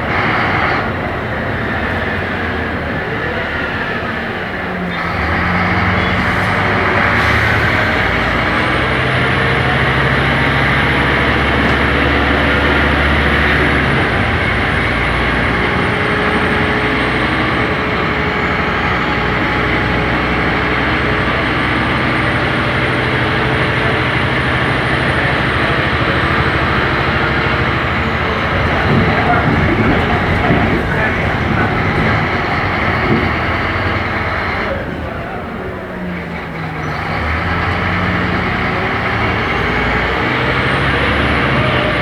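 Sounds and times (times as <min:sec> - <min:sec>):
bus engine running: 0:00.0 - 0:42.0.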